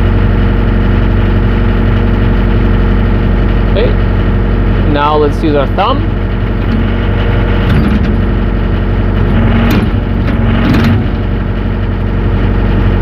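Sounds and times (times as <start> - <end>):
diesel engine running: 0.0 - 13.0
hydraulics working: 0.0 - 13.0.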